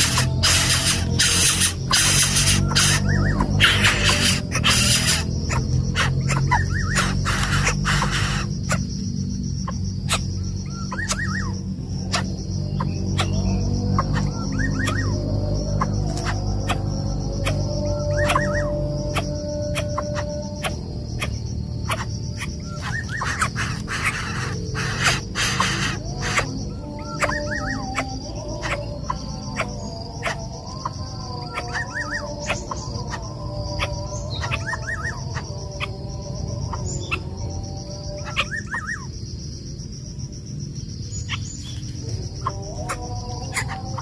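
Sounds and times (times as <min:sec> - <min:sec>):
quick rising bird chirps: 0:00.0 - 0:35.9
high-pitched insect drone: 0:00.0 - 0:44.0.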